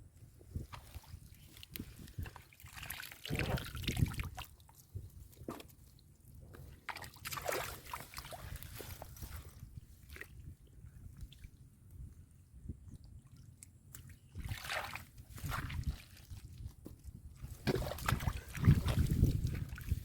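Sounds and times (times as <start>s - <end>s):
shallow water sloshing: 0.5s - 11.6s, 12.9s - 20.0s.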